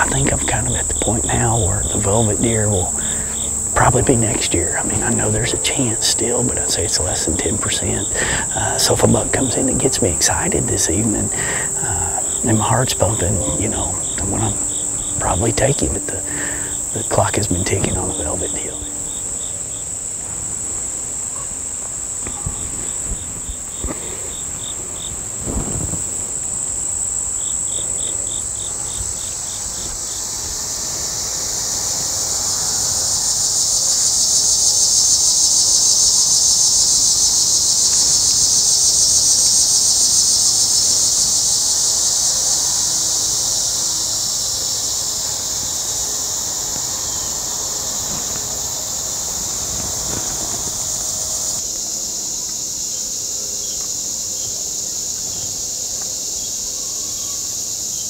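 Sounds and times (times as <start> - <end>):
insect buzzing chorus: 0.0 - 58.0
insect chirping pulses: 0.0 - 58.0
insects droning: 0.0 - 58.0.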